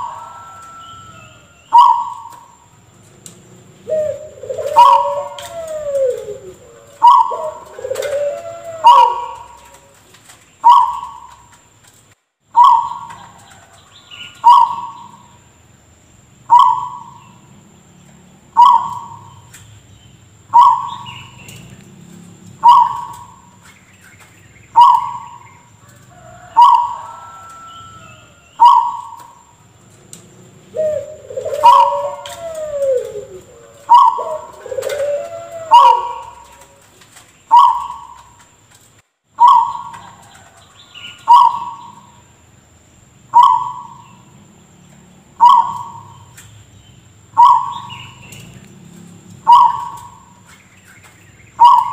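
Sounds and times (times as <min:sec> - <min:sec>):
gliding bird calls: 0:00.0 - 0:11.8, 0:12.5 - 0:15.4, 0:16.4 - 0:17.6, 0:18.4 - 0:38.7, 0:39.3 - 0:42.3, 0:43.3 - 0:51.9.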